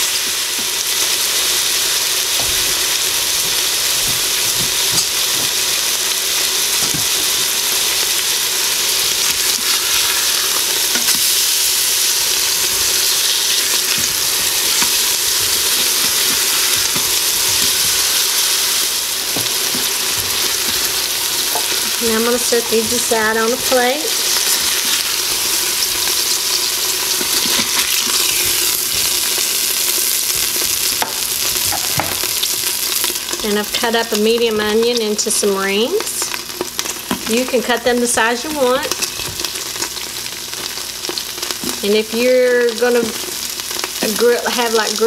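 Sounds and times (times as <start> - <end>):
meat sizzling in a pot: 0.0 - 45.0.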